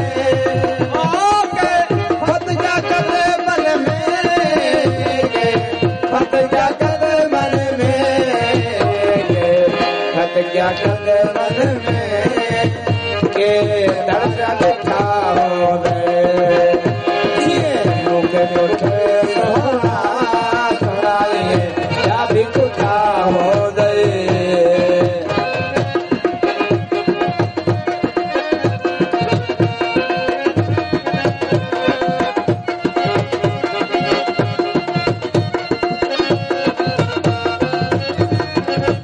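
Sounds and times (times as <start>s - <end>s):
hand drum rhythm: 0.0s - 39.0s
harmonium chords: 0.0s - 39.0s.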